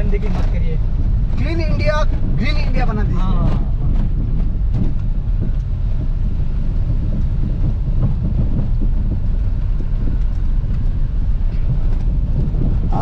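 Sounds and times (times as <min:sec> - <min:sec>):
car cabin rumble on dirt track: 0:00.0 - 0:13.0
knocks from rough road: 0:00.0 - 0:13.0.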